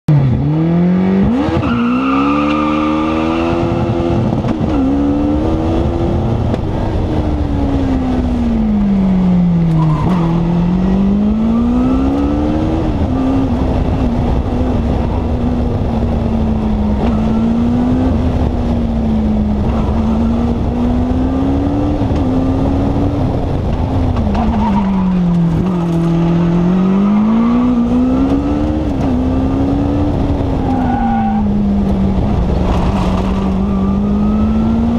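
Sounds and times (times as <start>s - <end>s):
race car engine accelerating: 0.1s - 34.9s
wind and road noise: 0.1s - 34.9s.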